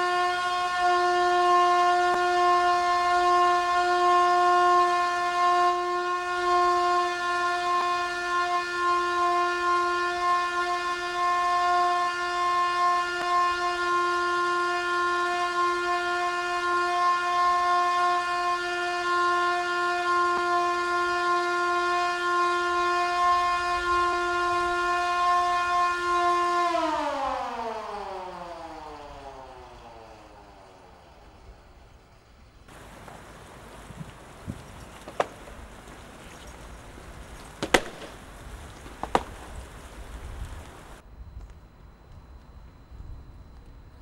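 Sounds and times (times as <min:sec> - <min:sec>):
siren steady tone: 0:00.0 - 0:44.0.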